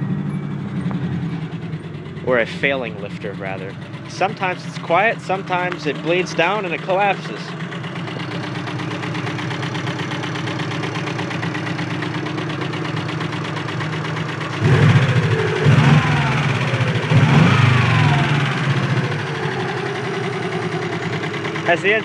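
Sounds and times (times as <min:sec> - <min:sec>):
car engine idling and revving: 0:00.0 - 0:22.0
fast even lifter ticking: 0:01.4 - 0:22.0.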